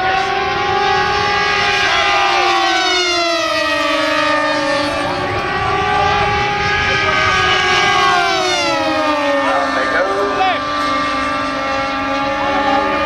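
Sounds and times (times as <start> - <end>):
model plane engines flying past: 0.0 - 13.0.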